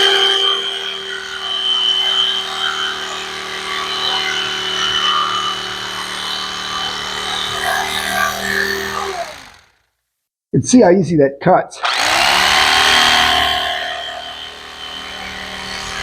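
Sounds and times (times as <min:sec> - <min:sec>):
electric knife sawing through foam: 0:00.0 - 0:09.9, 0:11.8 - 0:16.0.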